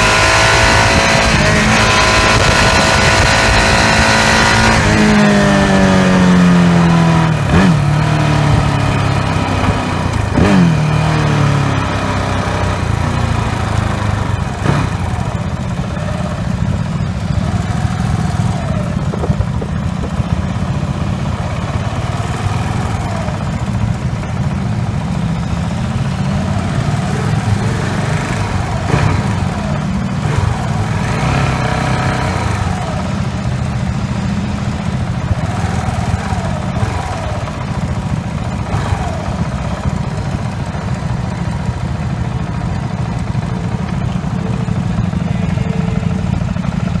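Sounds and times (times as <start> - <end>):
motorcycle engine low rumble: 0.0 - 47.0.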